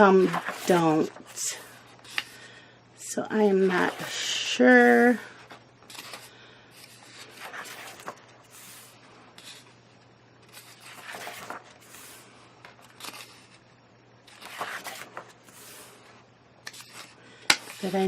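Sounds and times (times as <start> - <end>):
paper pages turning: 0.0 - 2.5, 3.5 - 9.8, 10.4 - 18.0.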